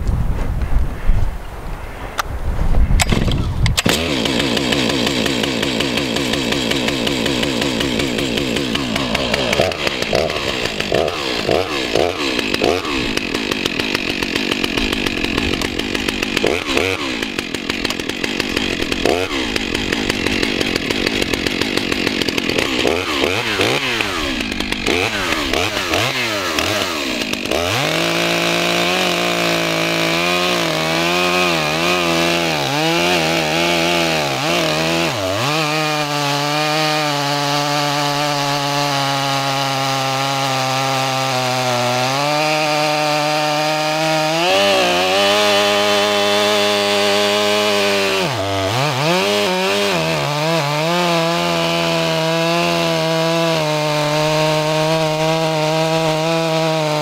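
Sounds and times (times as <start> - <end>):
chainsaw cutting log: 3.0 - 57.0.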